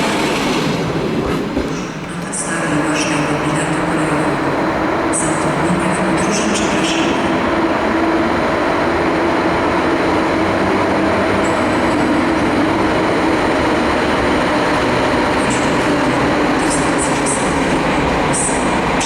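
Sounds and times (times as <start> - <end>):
train rumbling along track: 0.0 - 19.0.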